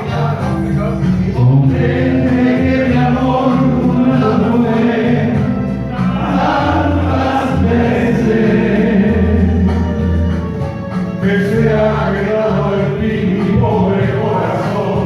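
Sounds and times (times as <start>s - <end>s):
low musical accompaniment: 0.0s - 15.0s
voices singing in harmony: 0.0s - 15.0s.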